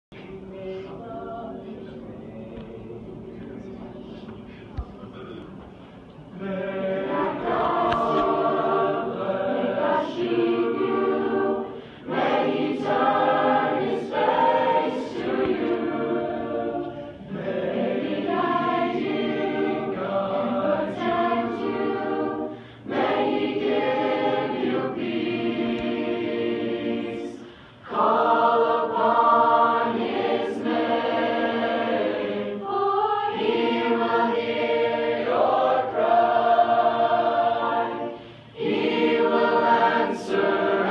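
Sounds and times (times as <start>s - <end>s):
choir singing in harmony: 0.2s - 4.0s, 6.3s - 40.9s.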